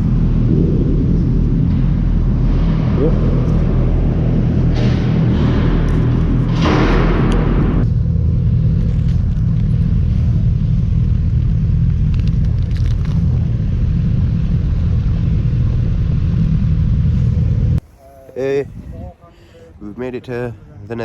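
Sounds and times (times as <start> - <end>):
motorbike engine drone: 0.0 - 18.9
wind rumble on microphone: 0.0 - 19.3.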